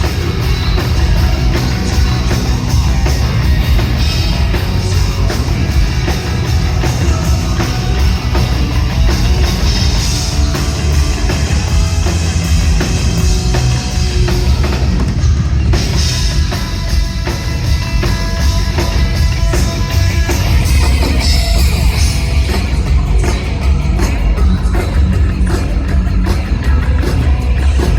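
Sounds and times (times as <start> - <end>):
drum kit pounding: 0.0 - 27.9
hard rock band playing live: 0.0 - 27.9.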